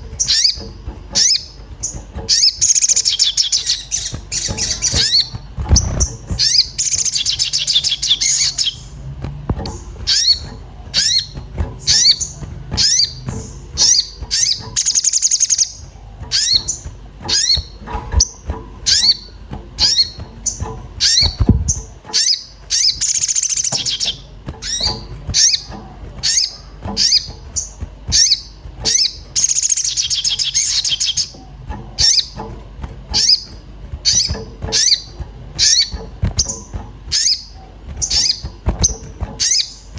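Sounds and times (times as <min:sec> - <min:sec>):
bird fast trill: 0:00.0 - 0:09.0, 0:09.8 - 0:31.4, 0:32.0 - 0:32.5, 0:33.1 - 0:39.9.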